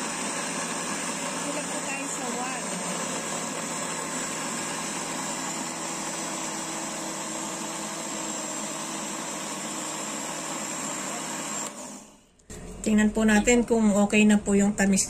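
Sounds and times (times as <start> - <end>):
blender running: 0.0 - 12.8.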